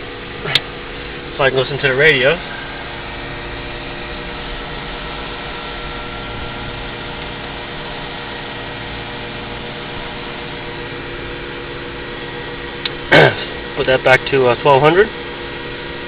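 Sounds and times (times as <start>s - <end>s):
light aircraft engine idling: 0.0s - 16.0s.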